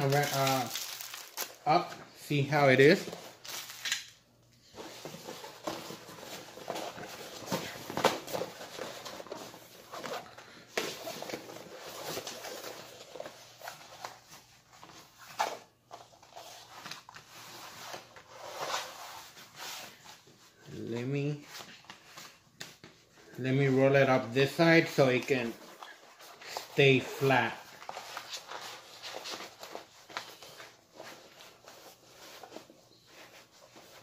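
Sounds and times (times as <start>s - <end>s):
paper wrapping rustling and crinkling: 0.0s - 1.9s, 2.6s - 34.0s.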